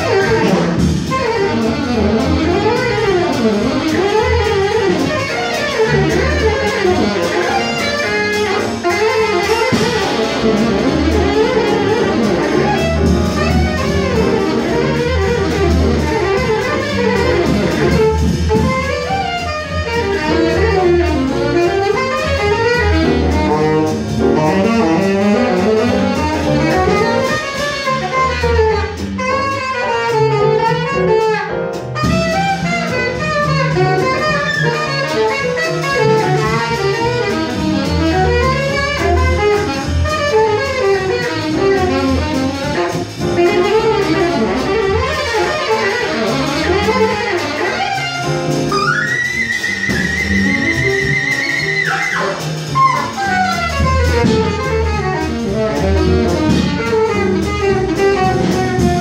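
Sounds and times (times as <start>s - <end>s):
drum kit: 0.0s - 59.0s
jazz saxophone solo: 0.0s - 59.0s
walking double bass: 0.0s - 59.0s.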